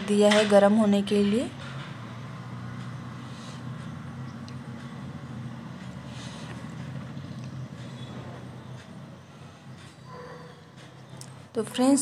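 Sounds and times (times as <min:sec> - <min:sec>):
constant low hum: 0:00.0 - 0:12.0.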